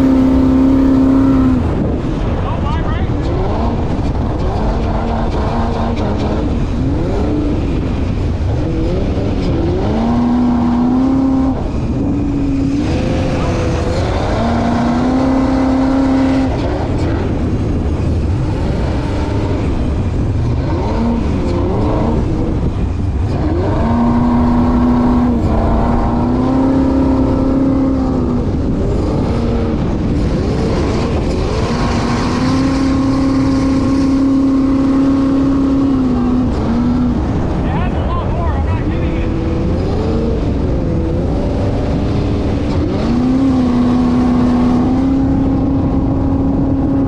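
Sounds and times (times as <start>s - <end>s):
boat engine running: 0.0s - 47.0s
rushing water and wind: 0.0s - 47.0s.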